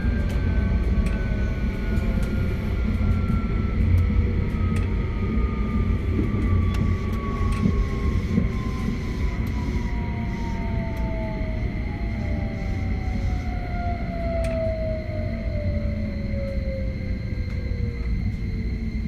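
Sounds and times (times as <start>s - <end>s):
train motor whine: 0.0s - 19.0s.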